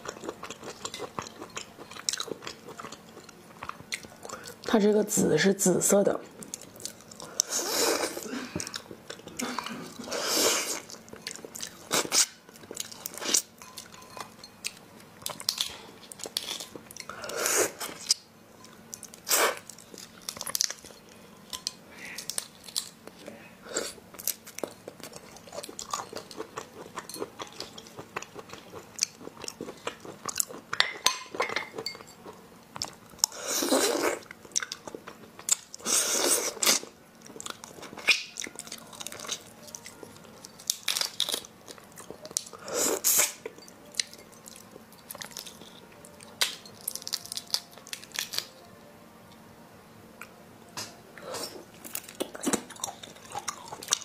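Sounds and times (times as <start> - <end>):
close-miked chewing and crunching: 0.0 - 4.8, 6.3 - 48.6, 51.2 - 54.0.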